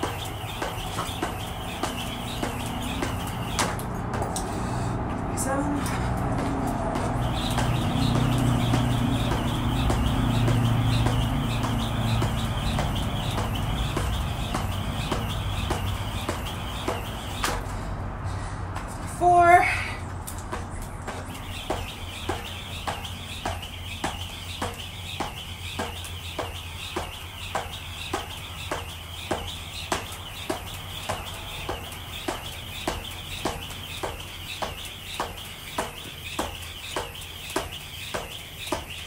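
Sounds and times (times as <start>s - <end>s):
birds twittering: 0.0s - 18.0s, 18.8s - 39.0s
jump rope slapping concrete: 0.0s - 18.0s, 18.6s - 19.2s, 19.9s - 39.0s.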